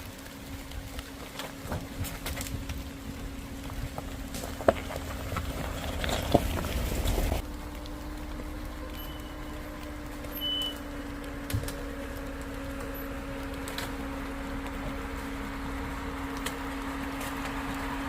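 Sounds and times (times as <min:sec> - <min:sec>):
vehicle engine and road drone: 0:00.0 - 0:18.0.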